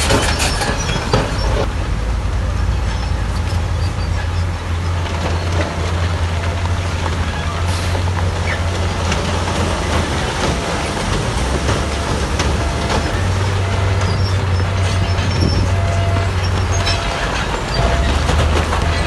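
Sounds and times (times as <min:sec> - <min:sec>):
heavy diesel machinery drone: 0:00.0 - 0:19.0.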